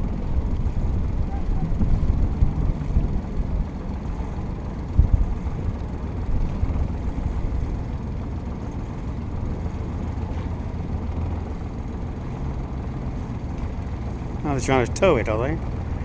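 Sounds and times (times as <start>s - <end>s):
low rumble aboard sailing yacht: 0.0s - 16.0s.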